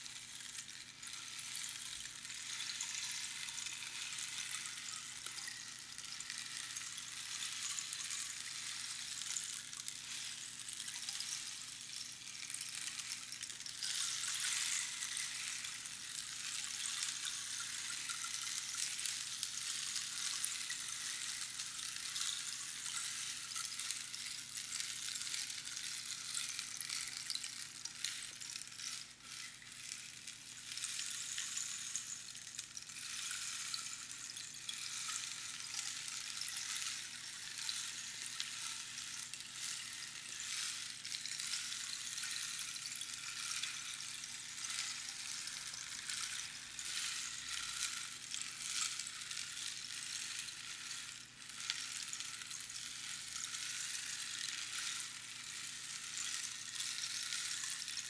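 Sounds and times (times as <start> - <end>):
rainstick trickling hiss: 0.0 - 58.0.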